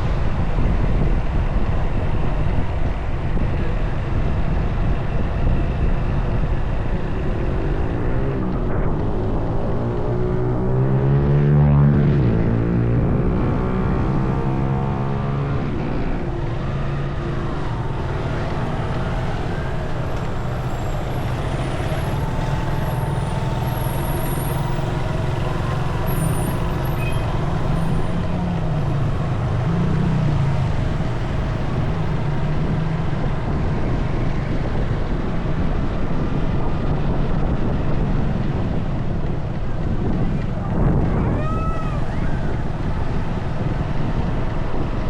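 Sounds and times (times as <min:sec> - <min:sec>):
road and air rush: 0:00.0 - 0:45.0.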